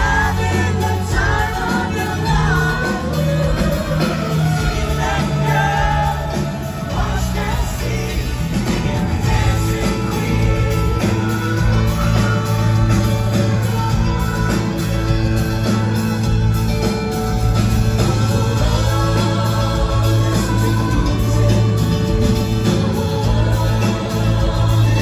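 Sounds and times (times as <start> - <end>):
lead vocals: 0.0 - 25.0
live pop-rock band playing: 0.0 - 25.0.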